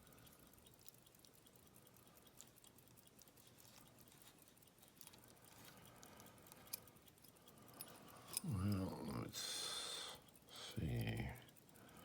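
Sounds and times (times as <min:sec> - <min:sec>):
faint room hiss: 0:00.0 - 0:12.0
faint small clicks: 0:00.0 - 0:12.0.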